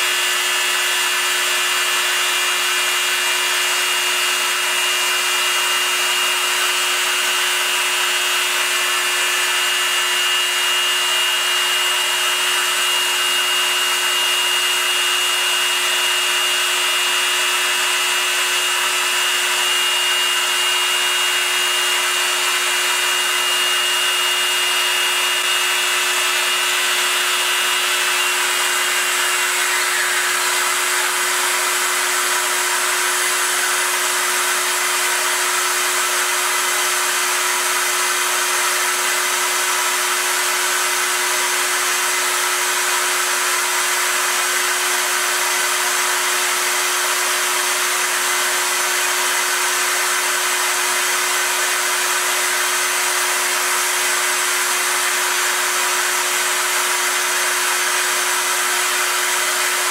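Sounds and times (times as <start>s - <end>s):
milling machine cutting metal: 0.0s - 59.9s.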